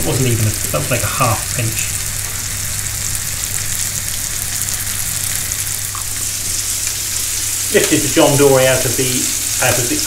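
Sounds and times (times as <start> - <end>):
fish sizzling in a pan: 0.0 - 10.0.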